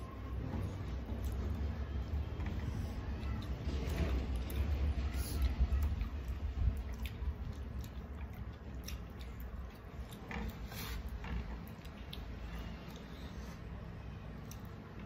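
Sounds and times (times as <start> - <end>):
low background hum: 0.0 - 15.0
chewing: 0.4 - 15.0.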